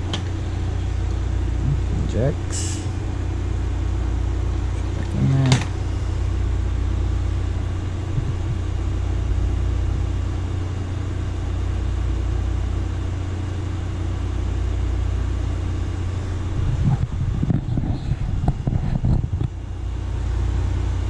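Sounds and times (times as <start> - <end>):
computer humming and whirring: 0.0 - 21.0.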